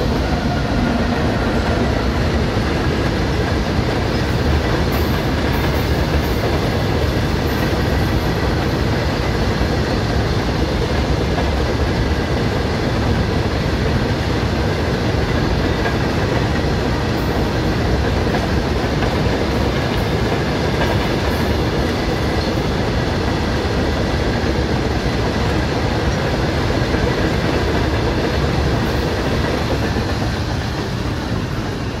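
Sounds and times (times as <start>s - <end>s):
steel wheels running on rails: 0.0s - 32.0s.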